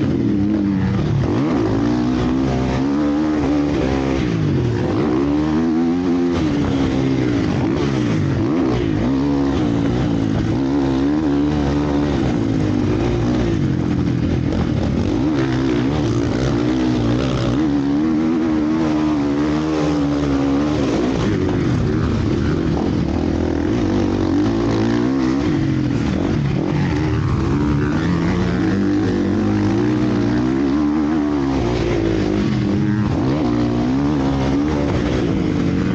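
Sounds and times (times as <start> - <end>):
motocross bike engines revving: 0.0 - 35.9.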